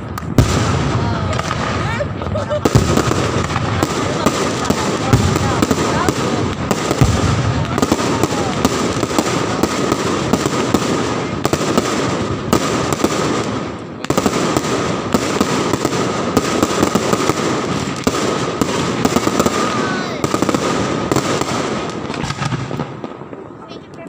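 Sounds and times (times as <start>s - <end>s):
firecrackers crackling and popping: 0.0s - 24.0s.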